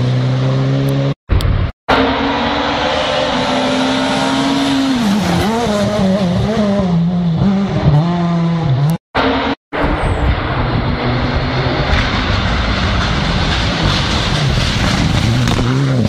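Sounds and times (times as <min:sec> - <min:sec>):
rally car engine at high revs: 0:01.9 - 0:16.0.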